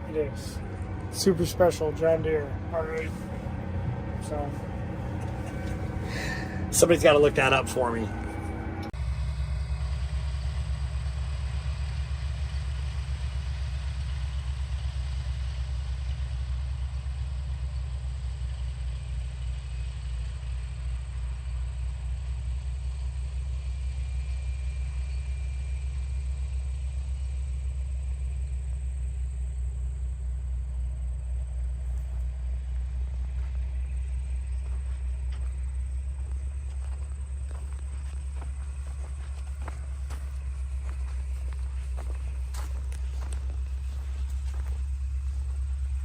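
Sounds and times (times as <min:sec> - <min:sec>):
tractor engine droning: 0:00.0 - 0:46.0.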